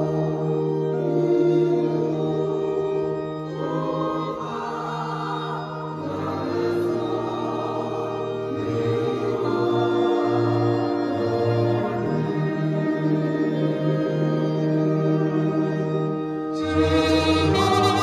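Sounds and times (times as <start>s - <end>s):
choir singing a hymn: 0.0s - 18.0s
organ chords: 0.0s - 18.0s.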